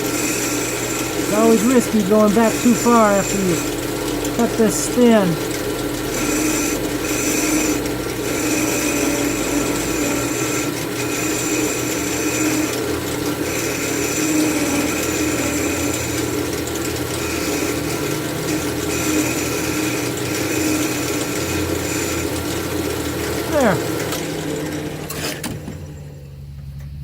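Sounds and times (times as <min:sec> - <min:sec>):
lathe motor hum: 0:00.0 - 0:25.5
turning tool cutting wood: 0:00.0 - 0:25.5.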